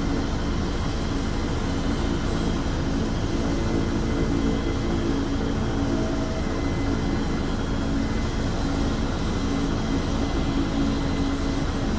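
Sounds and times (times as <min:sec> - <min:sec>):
helicopter turbine and rotor: 0:00.0 - 0:11.9.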